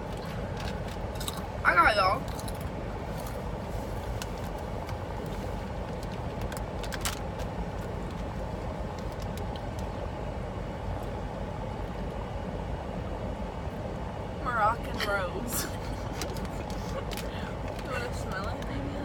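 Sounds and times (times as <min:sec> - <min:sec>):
car cabin hum: 0:00.0 - 0:19.0.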